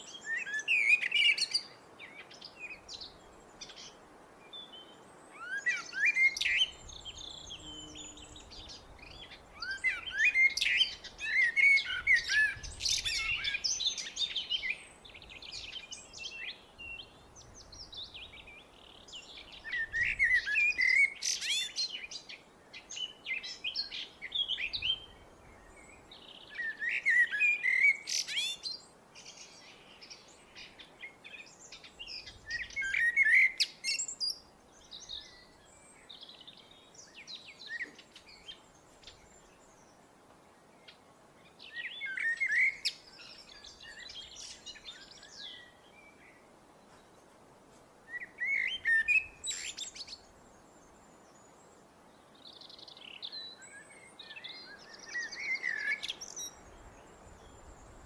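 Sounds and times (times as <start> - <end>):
blackbird singing: 0.0 - 4.0, 4.6 - 39.8, 40.8 - 47.1, 48.1 - 50.8, 52.3 - 56.8
faint bird chirps: 0.0 - 47.4, 48.0 - 58.0.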